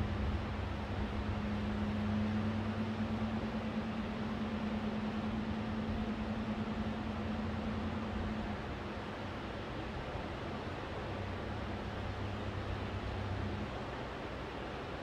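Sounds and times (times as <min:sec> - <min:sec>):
low engine hum: 0:00.0 - 0:15.0
wind: 0:00.0 - 0:15.0.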